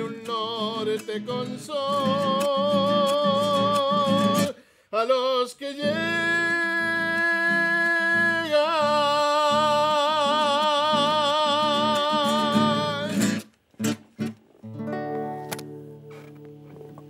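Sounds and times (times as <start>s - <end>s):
strummed acoustic guitar: 0.0s - 4.6s, 5.8s - 17.0s.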